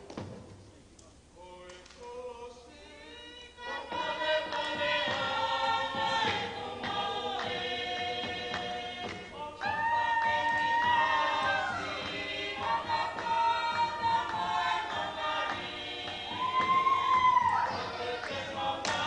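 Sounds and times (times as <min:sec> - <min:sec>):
group singing a cappella: 0:01.4 - 0:19.0.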